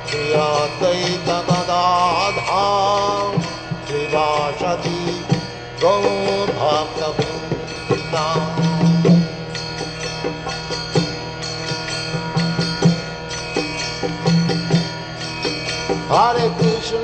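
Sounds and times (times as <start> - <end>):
instrumental devotional music: 0.0 - 17.0.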